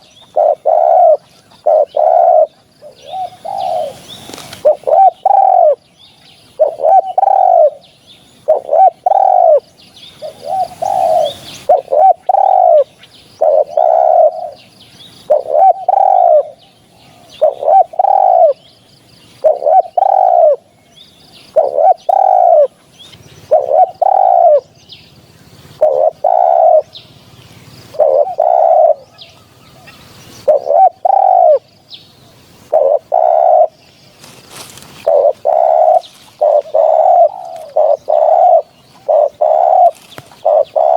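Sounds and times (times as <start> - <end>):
dove cooing: 0.0 - 5.8, 6.4 - 18.7, 19.3 - 20.8, 21.4 - 40.9.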